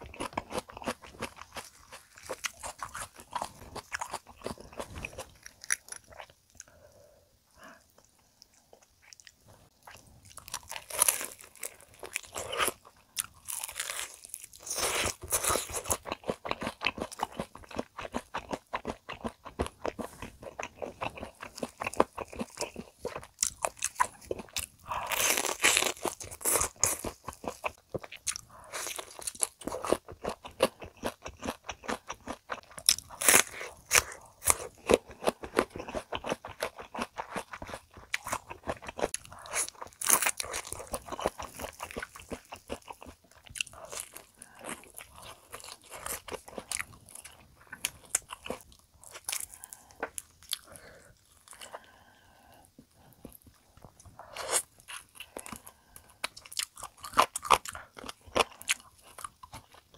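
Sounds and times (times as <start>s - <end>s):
person crunching fried chicken: 0.0s - 6.7s, 8.8s - 52.0s, 54.3s - 59.9s.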